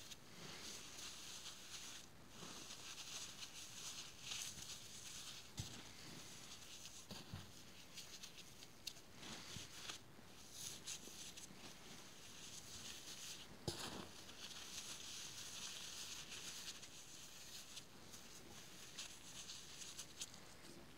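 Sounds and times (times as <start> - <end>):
foam crumbs crackling and rustling: 0.0 - 20.8.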